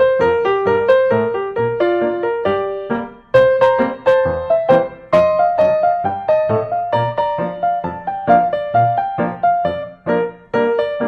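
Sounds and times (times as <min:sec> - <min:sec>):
piano-like keyboard melody: 0:00.0 - 0:11.0.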